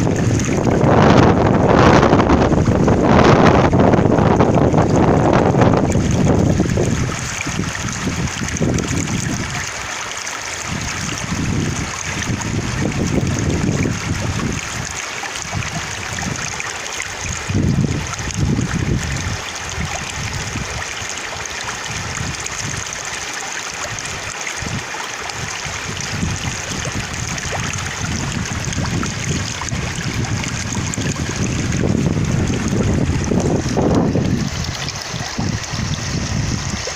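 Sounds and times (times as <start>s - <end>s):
wind buffeting microphone: 0.0s - 9.7s, 10.6s - 23.0s, 23.9s - 36.9s
stream water flowing: 0.0s - 36.9s.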